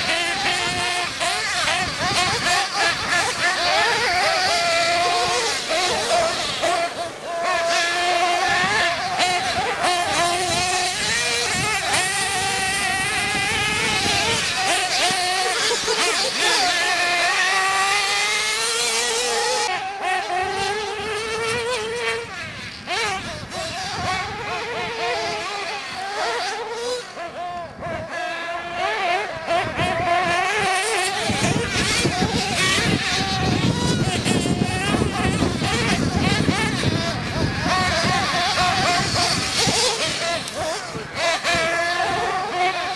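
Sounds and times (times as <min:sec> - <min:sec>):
rc car engines buzzing: 0:00.0 - 0:42.9.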